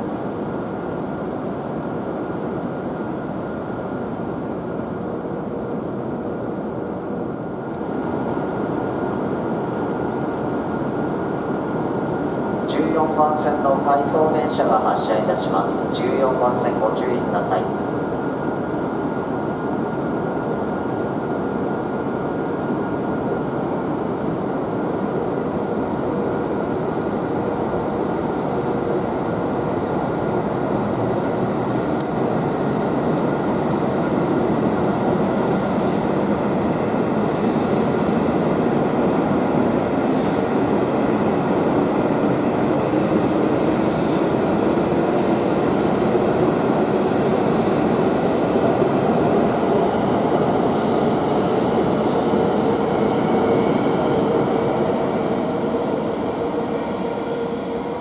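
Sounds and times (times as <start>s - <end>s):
train rumbling past: 7.6s - 58.0s.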